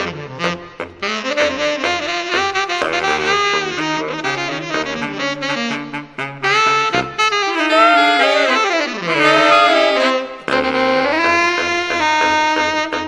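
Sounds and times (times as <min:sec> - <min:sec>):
saxophone quartet playing jazz: 0:00.0 - 0:13.0.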